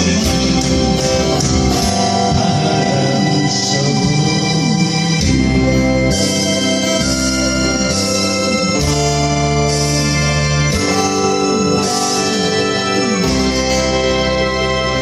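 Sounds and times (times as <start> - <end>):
electronic keyboard organ chords: 0.0 - 15.0
gliding melody line: 0.0 - 15.0.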